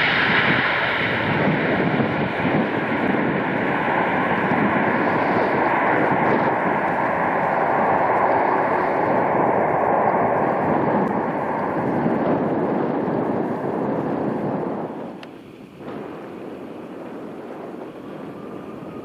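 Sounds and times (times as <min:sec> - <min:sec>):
jet engines rushing: 0:00.0 - 0:19.0
thin steady engine whine: 0:00.0 - 0:19.0.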